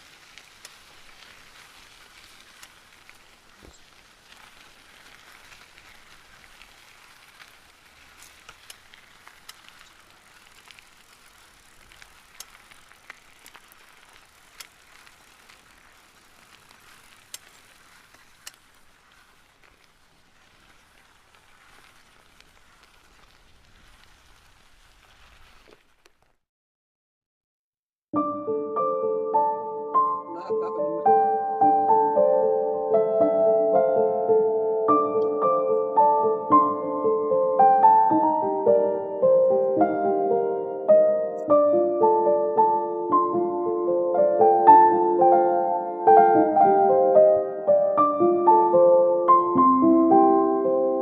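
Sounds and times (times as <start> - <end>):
light rain hissing: 0.0 - 26.4, 29.3 - 51.0.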